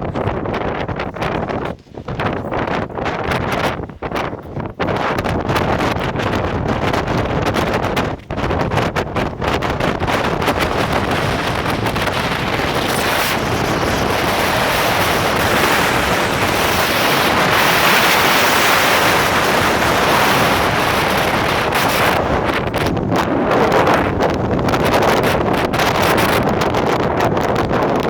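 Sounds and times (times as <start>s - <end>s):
strong wind on microphone: 0.0s - 28.0s.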